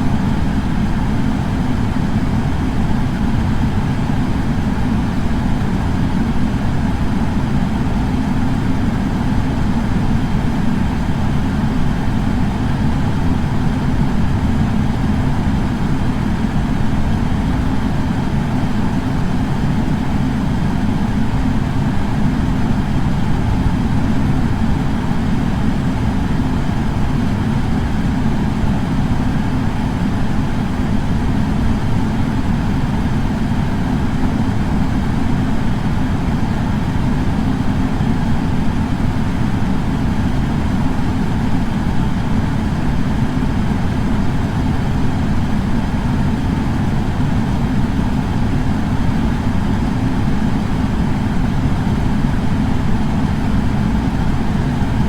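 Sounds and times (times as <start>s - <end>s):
air purifier fan running: 0.0s - 55.0s.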